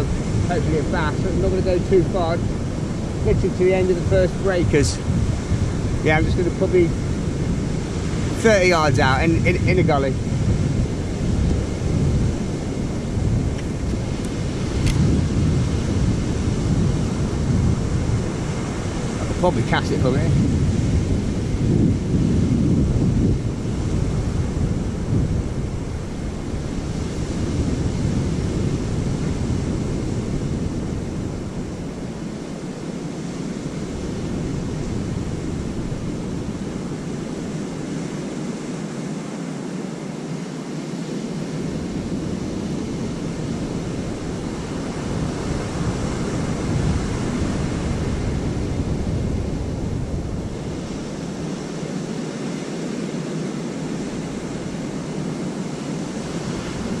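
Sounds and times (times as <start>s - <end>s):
surf breaking on beach: 0.0s - 57.0s
wind buffeting microphone: 0.0s - 57.0s.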